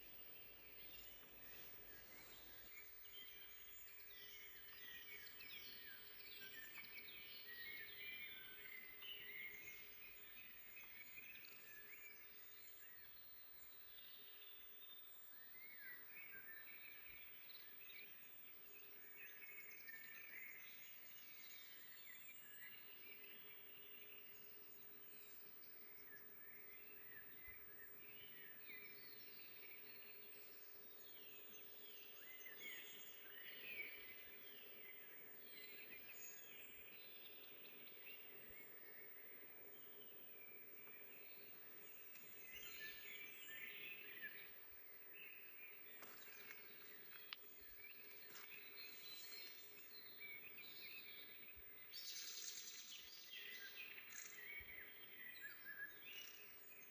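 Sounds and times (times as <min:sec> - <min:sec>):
faint steady hum: 0:00.0 - 0:56.9
small birds singing and chirping: 0:00.0 - 0:56.9.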